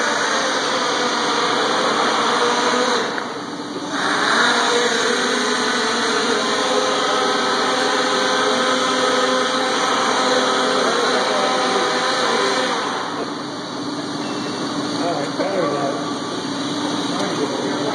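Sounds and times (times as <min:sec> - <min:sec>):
multicopter propellers whirring: 0:00.0 - 0:17.9.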